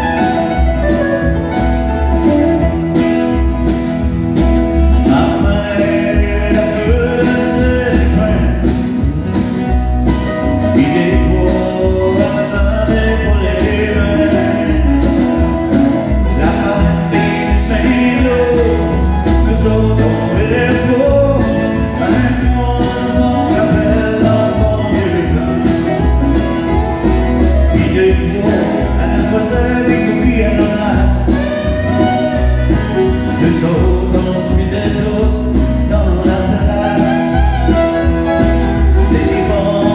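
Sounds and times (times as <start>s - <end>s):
country band playing: 0.0s - 39.9s
strummed acoustic guitar: 0.0s - 39.9s
man singing: 4.8s - 9.1s, 10.4s - 26.6s, 27.2s - 39.9s
fiddle: 5.6s - 34.7s, 36.5s - 39.9s.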